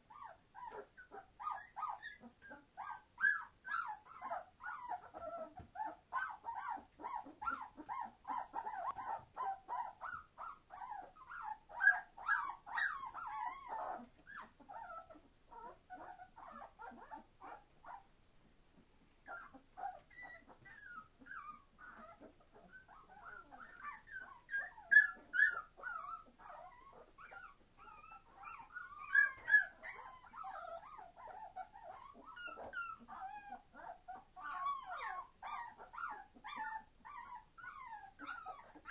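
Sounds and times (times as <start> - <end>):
puppies crying: 0.1 - 18.1, 19.3 - 38.9.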